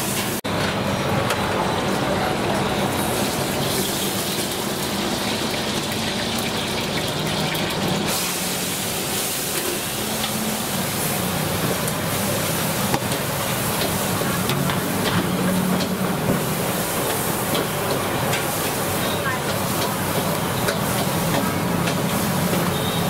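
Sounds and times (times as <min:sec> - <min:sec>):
busy market background hum: 0:00.0 - 0:23.0.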